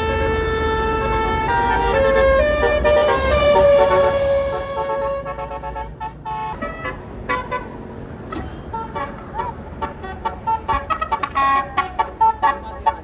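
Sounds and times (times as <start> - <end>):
low engine rumble: 0.0 - 13.0
musical bus horn toots: 0.0 - 13.0.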